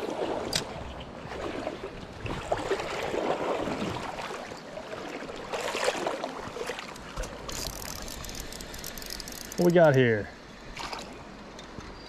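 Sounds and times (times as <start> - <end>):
stream water flowing: 0.0 - 12.0
water sloshing and splashing: 0.0 - 12.0.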